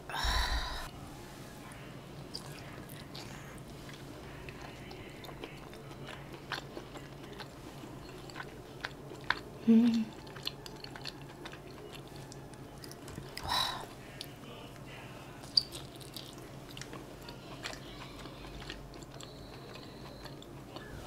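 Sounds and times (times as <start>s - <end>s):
person chewing: 2.3s - 21.0s.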